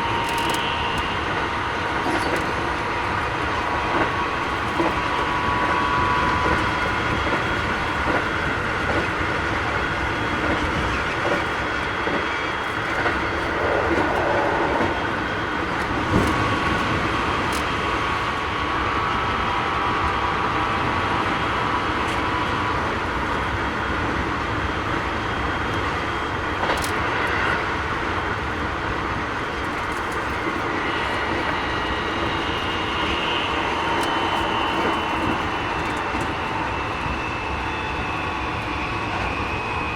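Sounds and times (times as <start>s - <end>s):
inverter whining tones: 0.0s - 39.9s
rail joint clicks: 0.0s - 39.9s
train wheel and rail noise: 0.0s - 39.9s.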